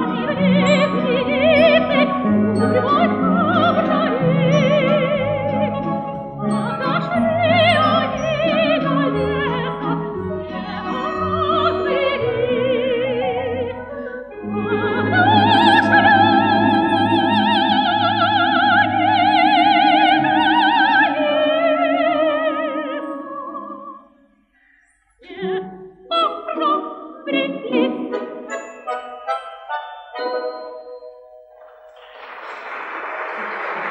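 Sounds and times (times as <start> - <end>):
folk instrument orchestra: 0.0 - 23.9, 25.8 - 32.0
soprano voice singing: 0.0 - 24.1, 25.2 - 28.3.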